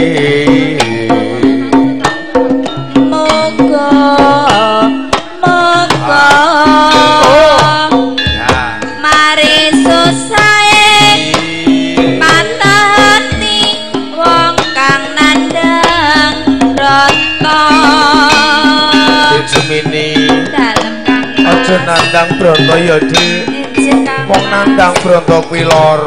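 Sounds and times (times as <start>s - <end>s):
hand drums beating: 0.0s - 26.0s
melodic percussion ensemble: 0.0s - 26.0s.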